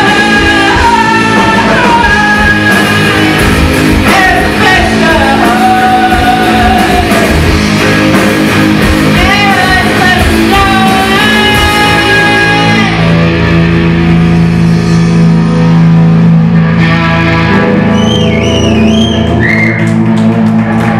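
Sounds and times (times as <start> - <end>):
live rock band playing: 0.0 - 20.9.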